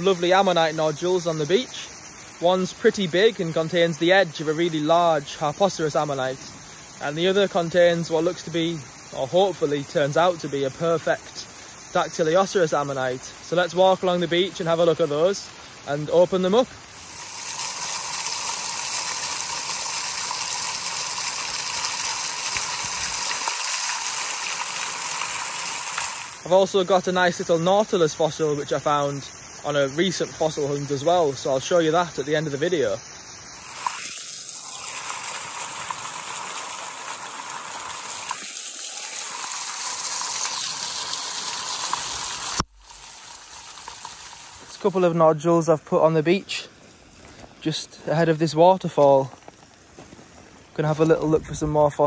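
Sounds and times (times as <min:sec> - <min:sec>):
waterfall splashing: 0:00.0 - 0:52.0.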